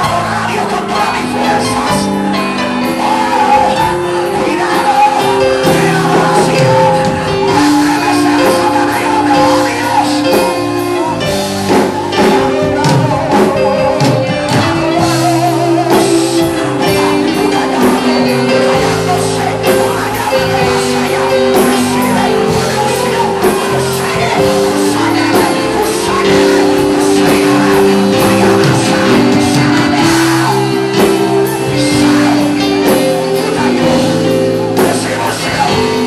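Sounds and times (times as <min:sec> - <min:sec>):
worship music with singing: 0:00.0 - 0:36.0.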